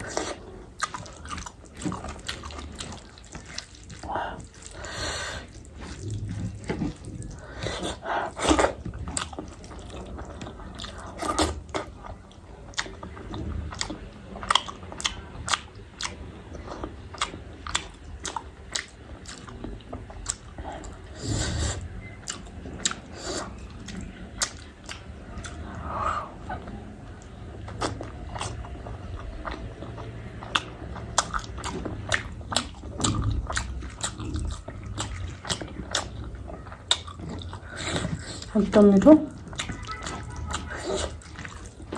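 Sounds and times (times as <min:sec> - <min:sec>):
person chewing and biting: 0:00.0 - 0:26.0, 0:26.6 - 0:38.5, 0:39.3 - 0:41.9.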